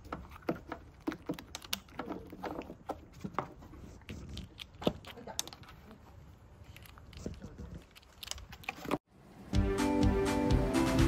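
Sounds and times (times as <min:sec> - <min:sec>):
otter cracking and chewing shell: 0:00.0 - 0:09.1.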